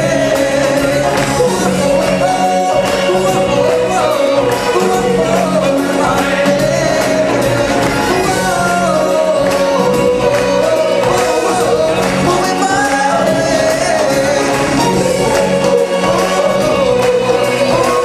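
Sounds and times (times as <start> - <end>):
band with pulsing bass: 0.0 - 18.0
voices singing together: 0.0 - 18.0.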